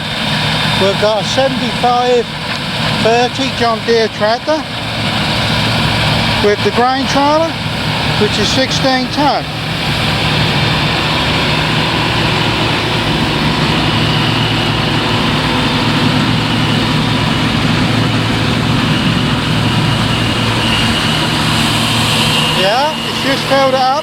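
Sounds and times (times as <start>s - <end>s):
diesel engine drone: 0.0s - 24.0s
faint high whine: 0.0s - 24.0s.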